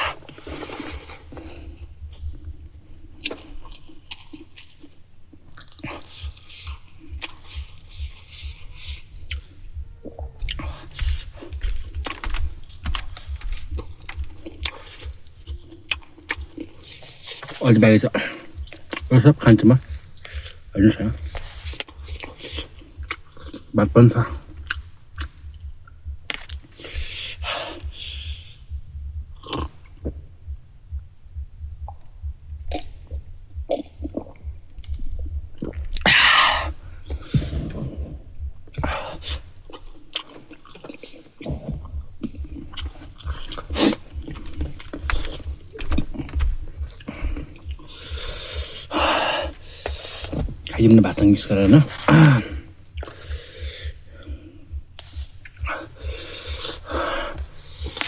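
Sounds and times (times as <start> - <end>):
wet chewing and mouth smacks: 0.0 - 28.7, 29.4 - 30.6, 31.8 - 50.7, 52.7 - 58.0.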